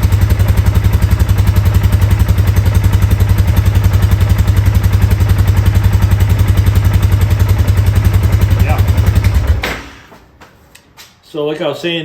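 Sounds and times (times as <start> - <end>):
engine idling with even putter: 0.0 - 9.6.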